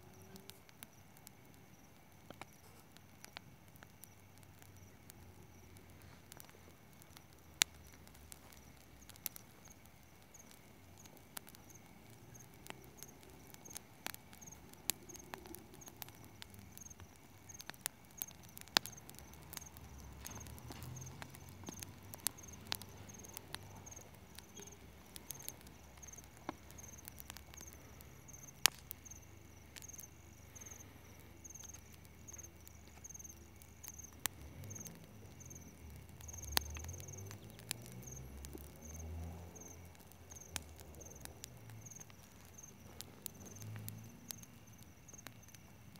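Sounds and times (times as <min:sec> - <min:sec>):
bonfire crackling: 0:00.0 - 0:45.9
cricket chirping: 0:00.0 - 0:45.9.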